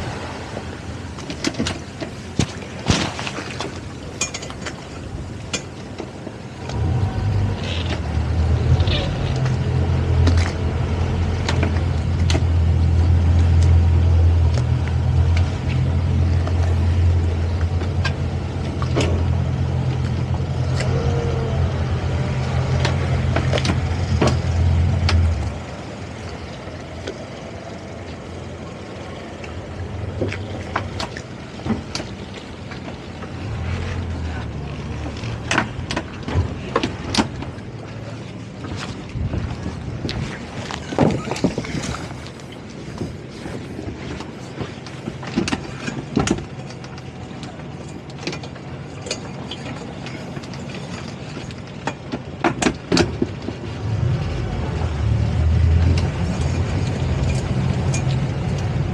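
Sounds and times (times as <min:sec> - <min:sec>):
outboard engines rumbling: 0:00.0 - 0:58.9.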